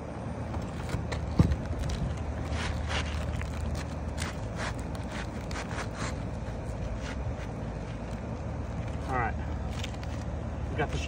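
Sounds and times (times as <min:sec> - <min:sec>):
steady low rumble: 0:00.0 - 0:11.0
shingles scraping and rustling: 0:00.6 - 0:10.4.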